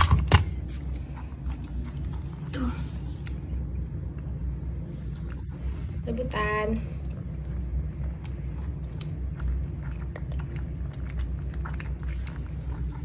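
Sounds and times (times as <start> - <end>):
cats crunching dry kibble: 0.0 - 5.6, 6.8 - 13.0
low steady hum: 0.0 - 13.0.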